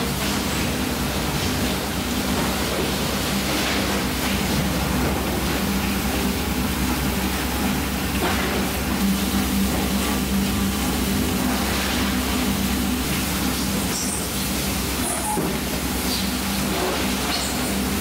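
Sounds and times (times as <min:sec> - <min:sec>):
water running and bubbling: 0:00.0 - 0:18.0.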